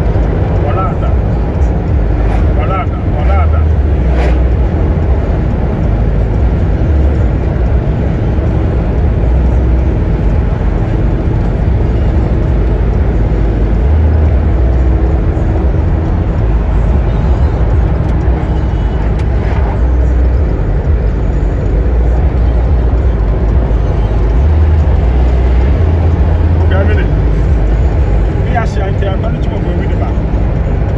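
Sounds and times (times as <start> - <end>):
road noise: 0.0 - 30.9
vehicle low rumble: 0.0 - 30.9.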